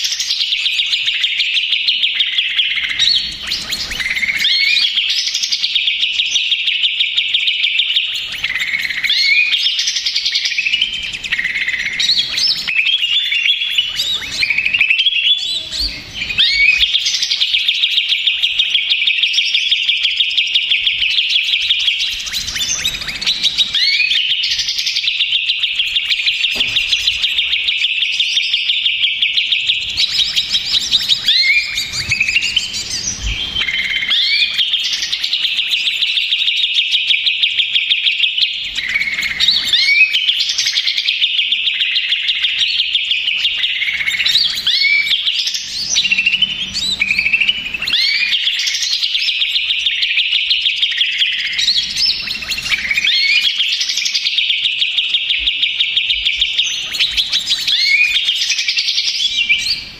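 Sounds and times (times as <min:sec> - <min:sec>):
bird singing rapid trills: 0:00.0 - 0:59.9.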